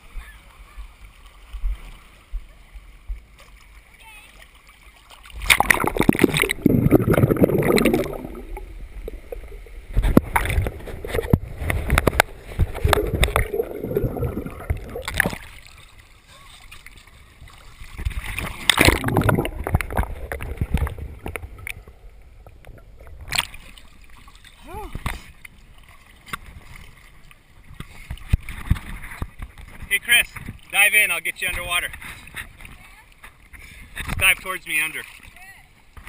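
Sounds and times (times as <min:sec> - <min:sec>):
water splashing from paddle strokes: 0:00.0 - 0:36.0.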